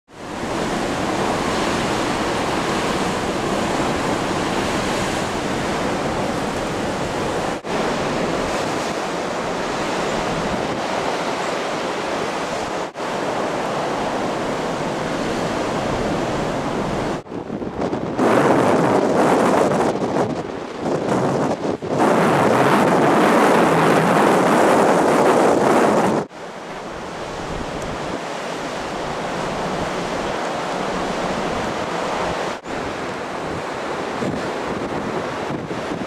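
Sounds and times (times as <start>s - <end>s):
wind blowing on microphone: 0.2s - 36.0s.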